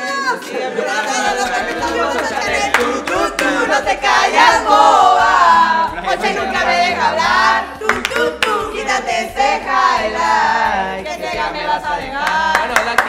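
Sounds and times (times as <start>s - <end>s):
group singing in chorus: 0.1s - 13.0s.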